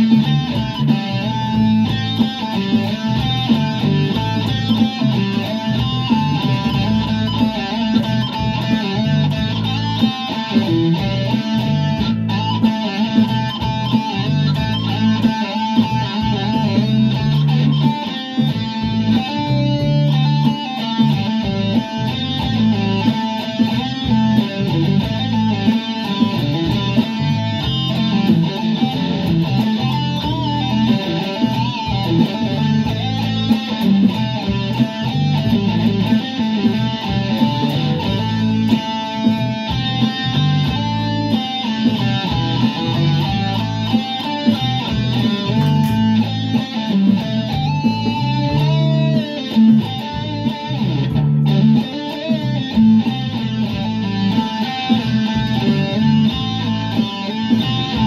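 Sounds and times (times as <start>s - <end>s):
electric guitar riffs: 0.0s - 58.0s.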